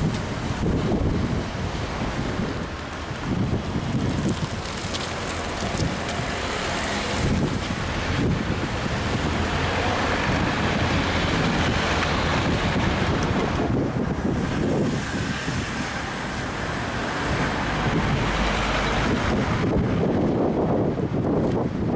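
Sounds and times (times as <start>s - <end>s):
cars passing: 0.0s - 21.7s
wind rumbling on microphone: 0.0s - 21.9s.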